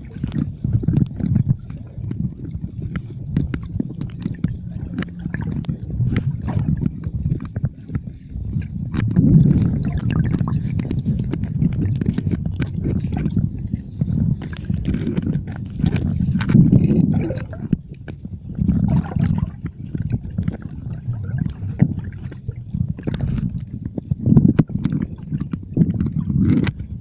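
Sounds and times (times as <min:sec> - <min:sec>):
muffled water sloshing: 0:00.0 - 0:27.0.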